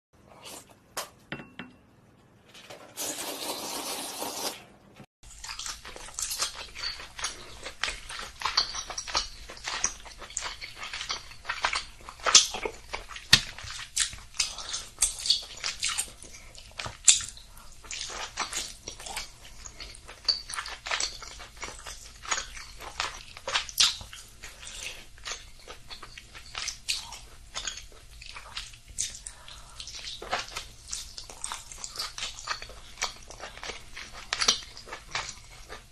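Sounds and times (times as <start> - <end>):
crunchy food being chewed: 5.3 - 35.9.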